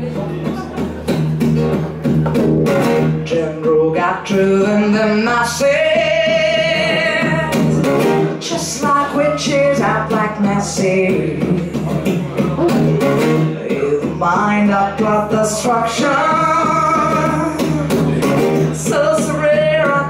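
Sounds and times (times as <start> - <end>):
acoustic guitar strumming: 0.0 - 20.0
woman singing: 3.2 - 12.9, 13.6 - 20.0.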